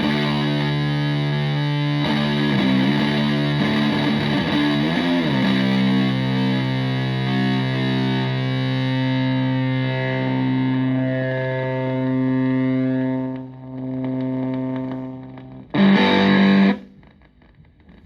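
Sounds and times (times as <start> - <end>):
fuzzy distorted electric guitar: 0.0 - 18.0.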